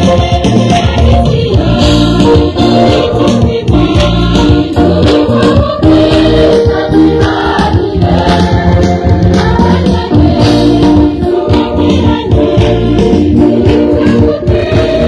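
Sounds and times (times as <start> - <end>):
choir singing a hymn: 0.0 - 15.0
steady beat: 0.0 - 15.0.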